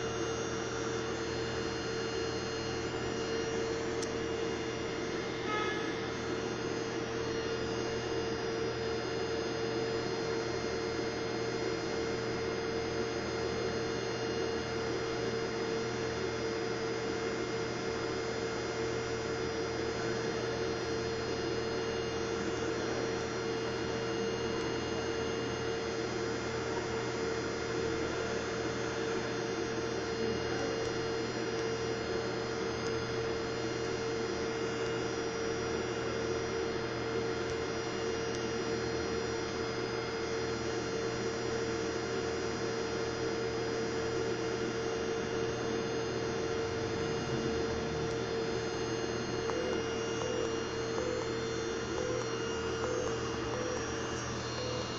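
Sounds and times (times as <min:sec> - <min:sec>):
steady hum: 0:00.0 - 0:54.9.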